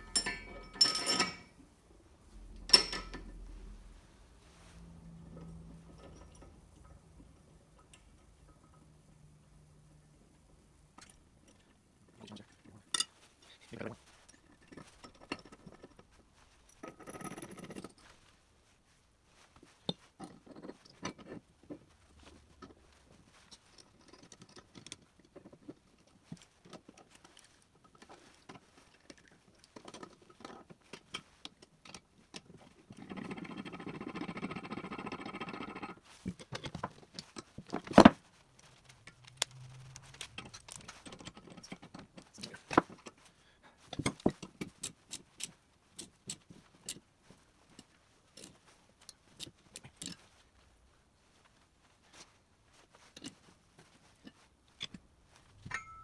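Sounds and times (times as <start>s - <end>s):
continuous scraping: 0.0s - 56.0s.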